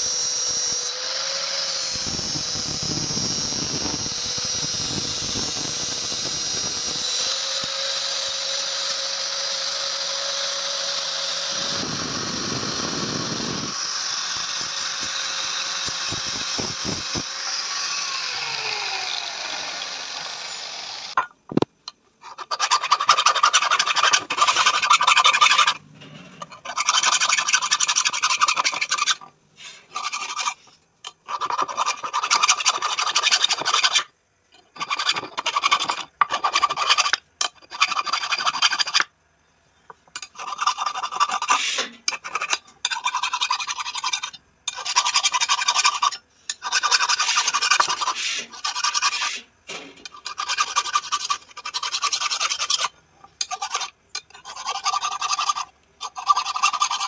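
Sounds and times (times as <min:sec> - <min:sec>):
file rasping on metal: 0:00.6 - 0:21.2, 0:22.2 - 0:34.1, 0:34.7 - 0:39.1, 0:40.2 - 0:57.0.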